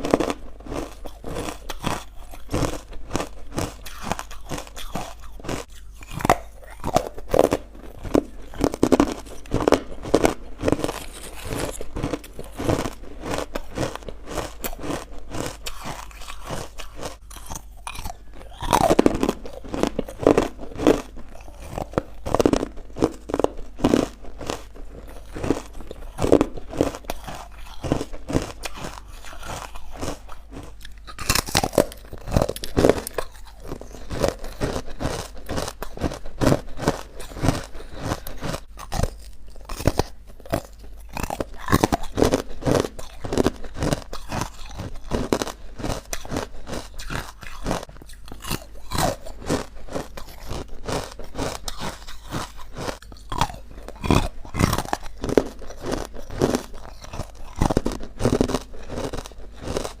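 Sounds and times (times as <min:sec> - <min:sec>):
ice being chewed and crunched: 0:00.0 - 1:00.0.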